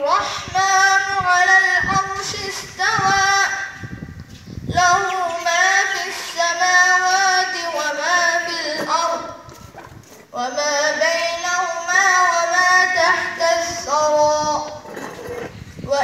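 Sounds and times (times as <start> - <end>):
boy reciting melodically: 0.0 - 14.9, 15.6 - 16.0.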